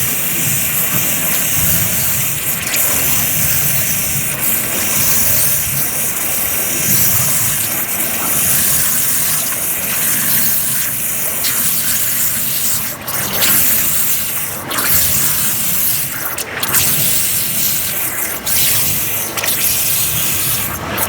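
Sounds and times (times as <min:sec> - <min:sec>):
waterjet cutter hissing: 0:00.0 - 0:21.0.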